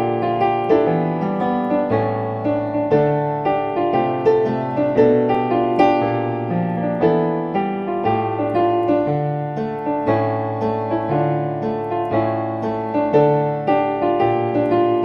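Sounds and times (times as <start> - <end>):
slow piano instrumental: 0.0 - 15.0.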